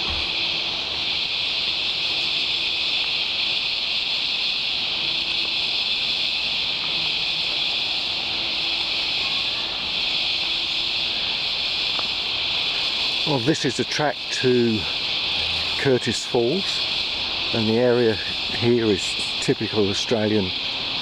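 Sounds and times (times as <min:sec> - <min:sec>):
cicadas screaming: 0:00.0 - 0:21.0.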